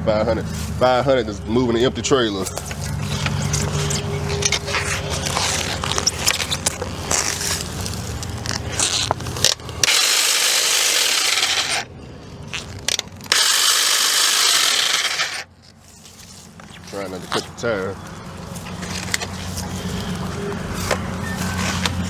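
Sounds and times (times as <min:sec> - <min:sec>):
power saw cutting roots: 0:00.0 - 0:22.0
clicking and scraping: 0:01.7 - 0:22.0.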